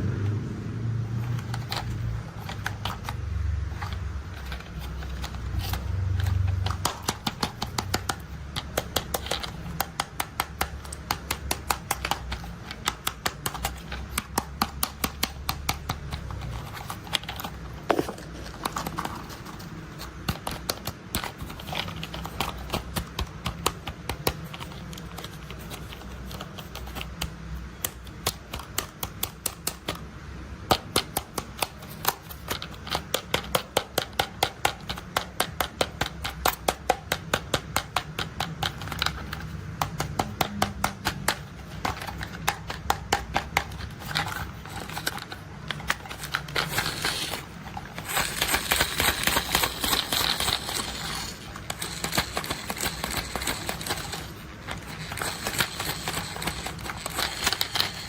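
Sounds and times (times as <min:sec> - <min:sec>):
plastic toy clicks: 0:01.2 - 0:30.1, 0:30.7 - 0:58.0.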